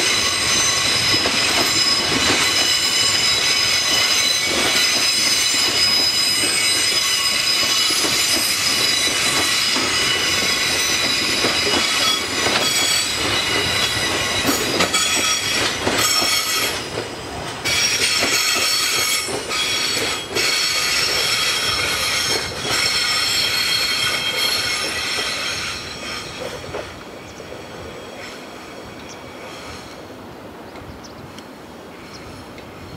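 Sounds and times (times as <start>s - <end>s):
wheels clattering on rails: 0.0s - 30.0s
train wheels squealing: 0.0s - 30.1s.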